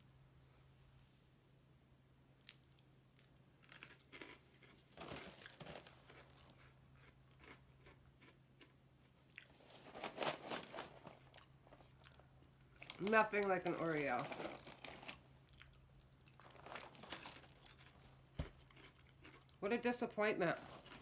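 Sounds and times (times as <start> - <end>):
person crunching and chewing cereal: 2.5 - 21.0.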